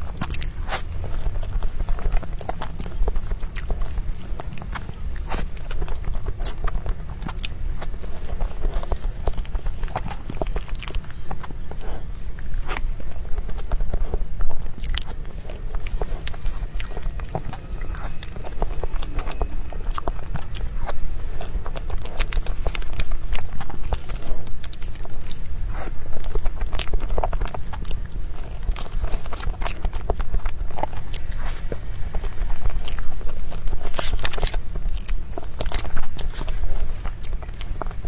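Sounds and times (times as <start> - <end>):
person chewing cake: 0.0 - 38.0
steady low hum: 0.0 - 38.0.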